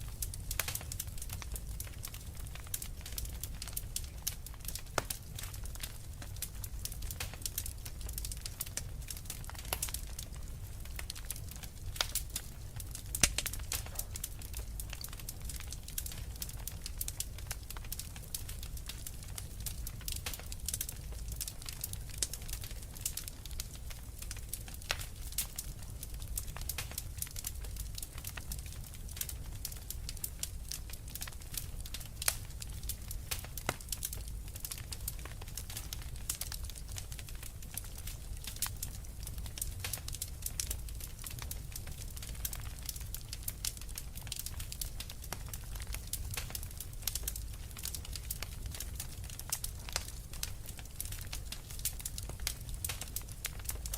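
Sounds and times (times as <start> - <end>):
low rumble of burning: 0.0 - 53.9
wood fire crackling and popping: 0.0 - 53.9.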